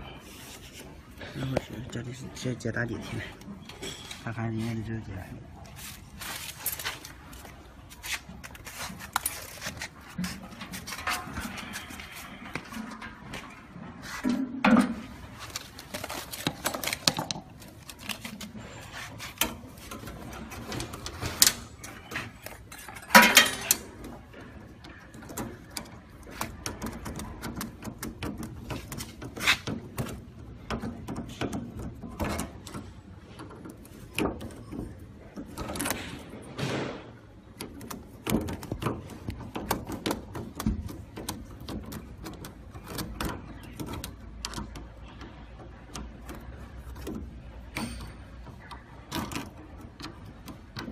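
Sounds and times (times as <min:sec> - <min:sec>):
handling clicks and knocks: 0:06.1 - 0:50.9.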